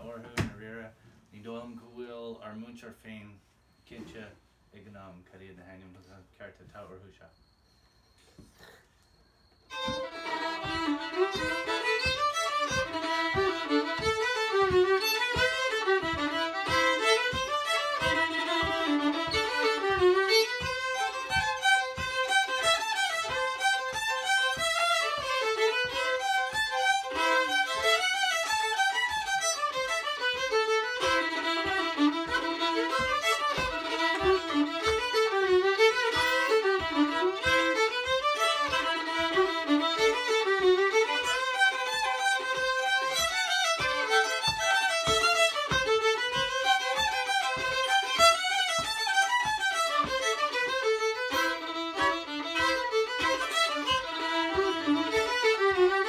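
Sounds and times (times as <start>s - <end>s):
two fiddles playing a folk tune: 9.6s - 56.0s
soft low thump on the beat: 9.7s - 56.0s.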